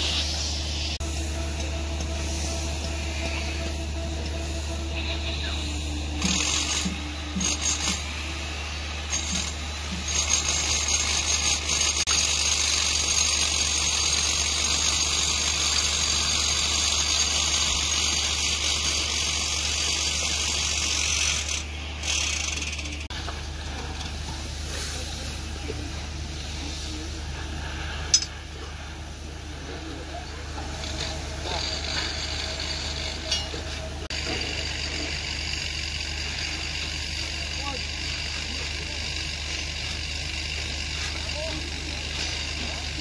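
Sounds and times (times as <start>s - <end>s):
machine running with hum and hiss: 0.0s - 43.0s.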